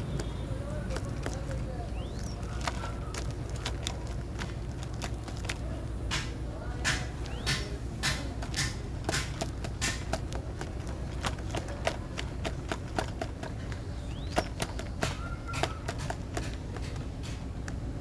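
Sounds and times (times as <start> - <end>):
sharp clicks and taps: 0.0 - 18.0.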